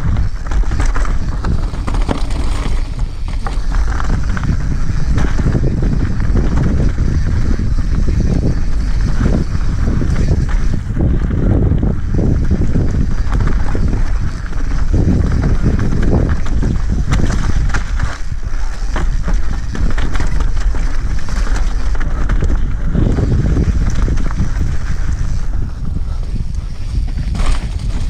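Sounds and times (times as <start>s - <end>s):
bike rattling and knocking: 0.0s - 28.0s
tyres rumbling over dirt: 0.0s - 28.0s
wind buffeting microphone: 0.0s - 28.0s.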